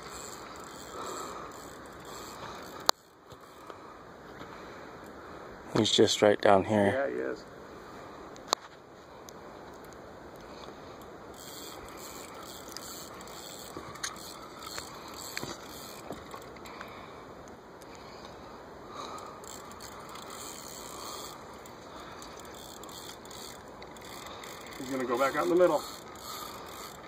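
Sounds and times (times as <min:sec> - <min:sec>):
outdoor background noise: 0:00.0 - 0:27.0.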